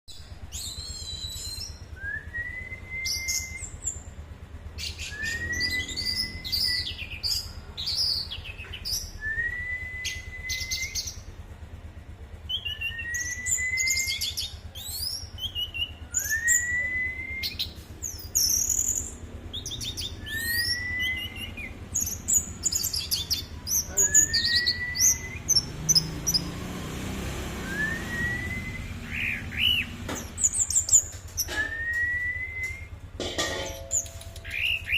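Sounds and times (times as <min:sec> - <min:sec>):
thrush singing: 0:04.7 - 0:34.9.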